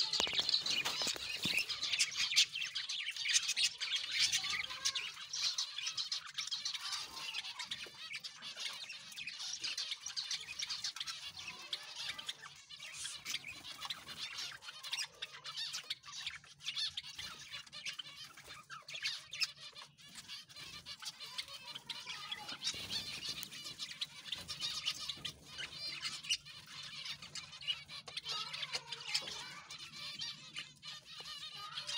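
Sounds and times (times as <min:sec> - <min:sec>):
sparrows chirping: 0:00.0 - 0:31.9.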